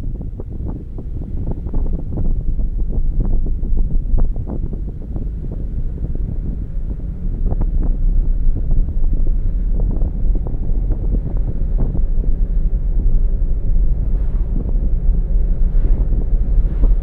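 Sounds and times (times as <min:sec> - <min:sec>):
road and wind rumble: 0:00.0 - 0:17.0.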